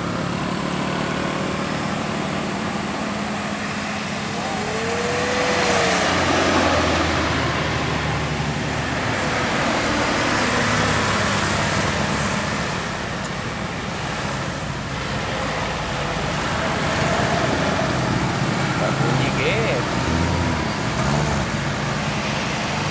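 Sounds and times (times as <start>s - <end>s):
heavy vehicle engine running: 0.0s - 22.9s
tyre and road noise: 0.0s - 22.9s.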